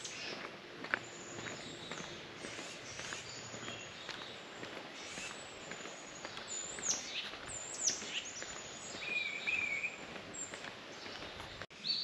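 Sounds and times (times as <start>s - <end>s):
footsteps on dirt trail: 0.0s - 11.7s
birds calling: 0.0s - 12.0s.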